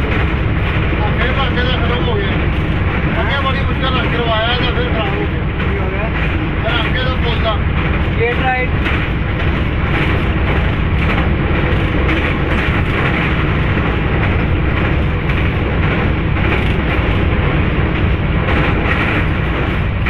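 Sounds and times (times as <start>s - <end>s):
train rumble: 0.0s - 20.0s
wheels clattering: 0.0s - 20.0s.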